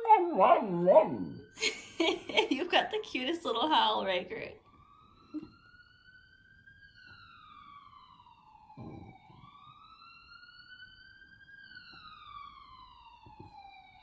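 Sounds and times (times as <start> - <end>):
siren wailing through speaker: 0.0 - 14.0.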